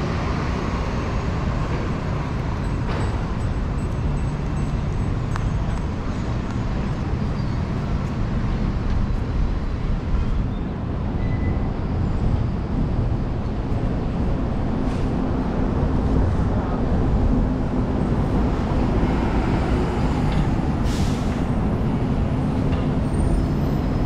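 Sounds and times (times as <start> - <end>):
bus engine running: 0.0 - 24.0
street traffic: 0.0 - 24.0.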